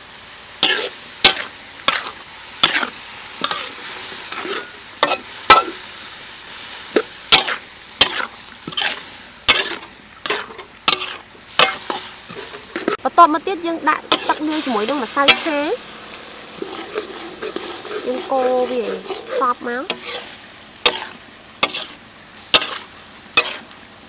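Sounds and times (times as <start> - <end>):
food sizzling: 0.0 - 24.0
metal spatula scraping wok: 0.6 - 13.0, 13.6 - 23.8.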